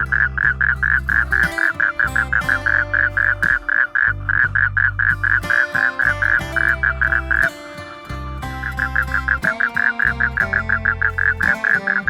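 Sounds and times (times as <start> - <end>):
background music with chords: 0.0 - 12.0.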